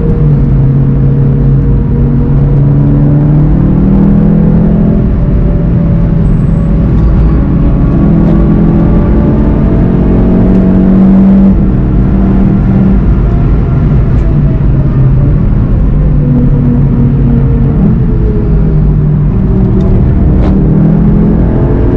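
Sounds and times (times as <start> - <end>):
car engine pulling hard: 0.0 - 21.9
road and wind rumble: 0.0 - 21.9.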